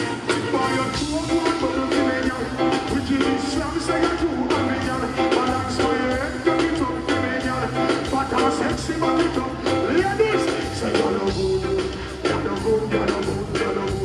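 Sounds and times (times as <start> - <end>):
bass line: 0.0 - 14.0
drums: 0.0 - 14.0
live dancehall music: 0.0 - 14.0
person singing: 0.3 - 14.0.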